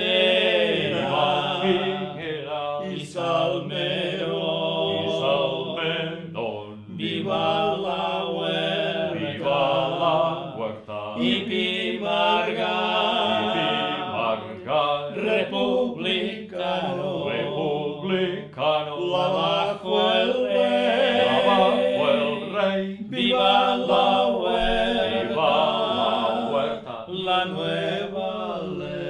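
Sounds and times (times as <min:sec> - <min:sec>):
man singing unaccompanied: 0:00.0 - 0:29.0.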